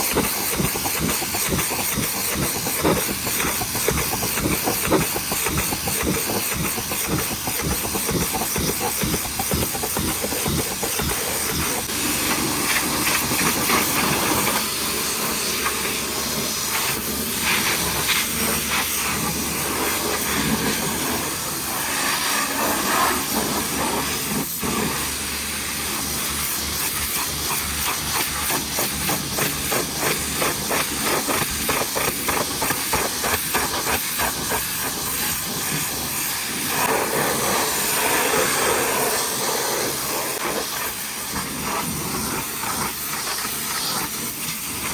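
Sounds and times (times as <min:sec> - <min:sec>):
pressure washer jet spraying water: 0:00.0 - 0:44.9.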